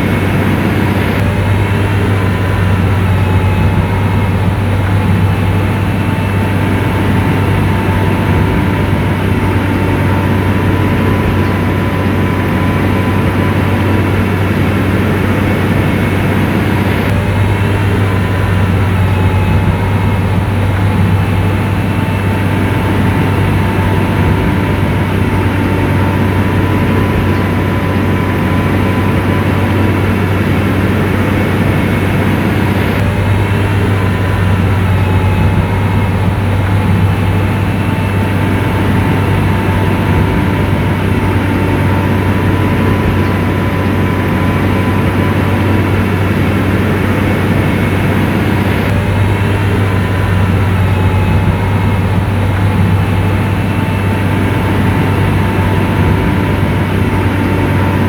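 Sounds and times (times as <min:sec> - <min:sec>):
diesel engine humming: 0:00.0 - 0:58.0
faint steady whine: 0:00.0 - 0:58.0.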